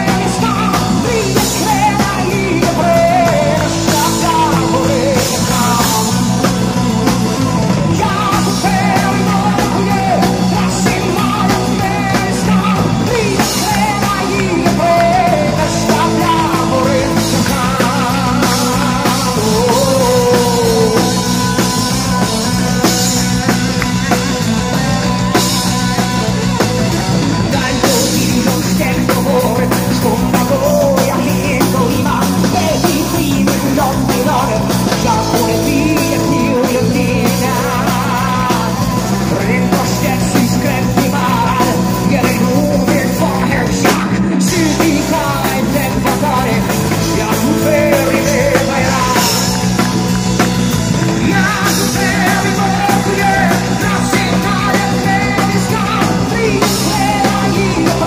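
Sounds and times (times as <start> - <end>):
drum kit: 0.0 - 58.0
electric guitar: 0.0 - 58.0
man singing: 0.0 - 58.0.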